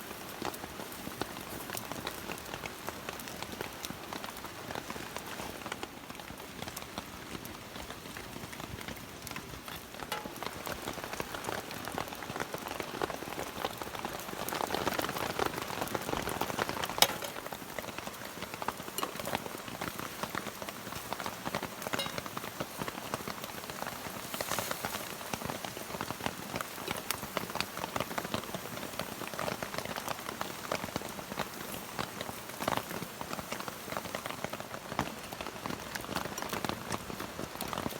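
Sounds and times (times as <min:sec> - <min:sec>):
rain pattering: 0:00.0 - 0:37.9.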